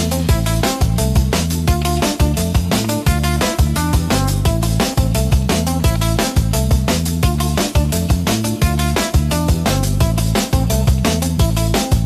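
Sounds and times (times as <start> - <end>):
deep sustained bass line: 0.0 - 12.0
steady drum beat: 0.0 - 12.0.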